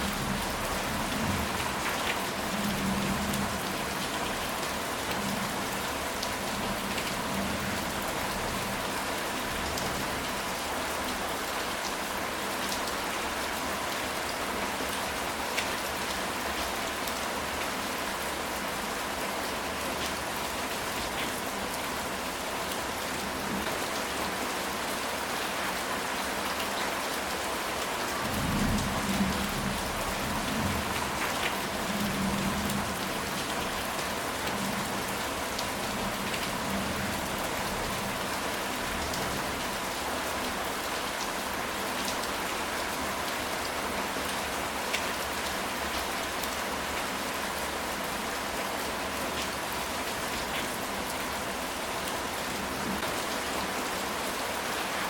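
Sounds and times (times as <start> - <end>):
rain on a tile roof: 0.0 - 55.0.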